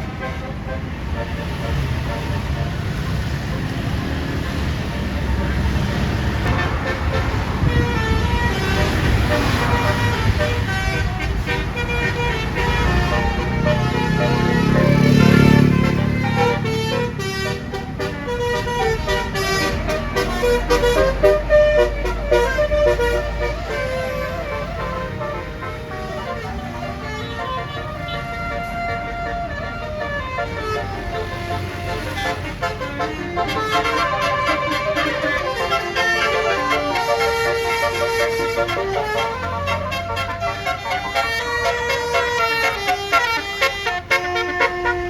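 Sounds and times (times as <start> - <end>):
bus engine rumbling: 0.0 - 45.0
road noise: 0.0 - 45.0.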